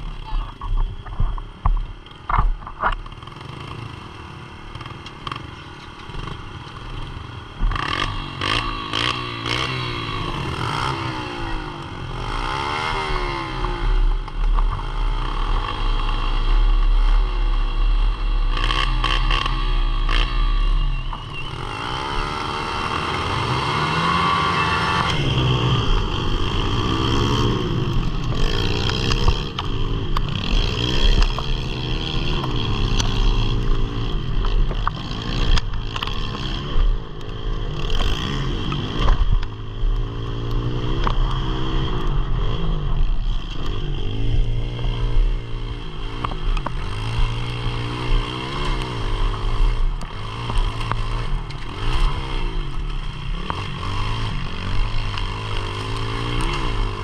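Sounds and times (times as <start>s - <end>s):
motorbike engine revving: 3.0s - 57.0s.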